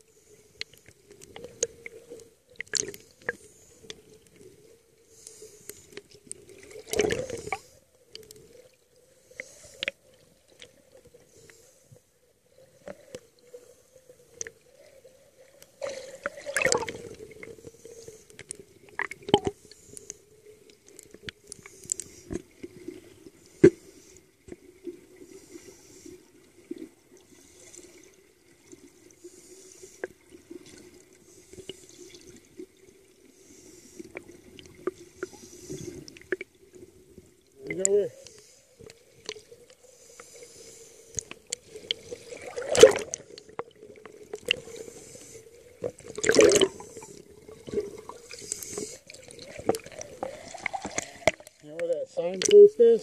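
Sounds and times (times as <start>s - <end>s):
underwater bubbles hissing: 0.0s - 11.8s, 12.5s - 51.6s.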